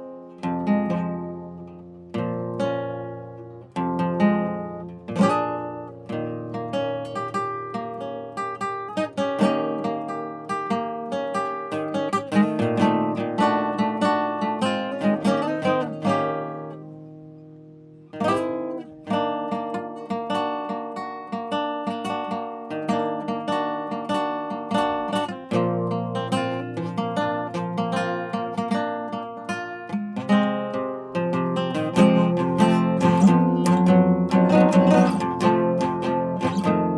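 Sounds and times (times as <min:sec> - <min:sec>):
acoustic guitar plucking: 0:00.0 - 0:36.9.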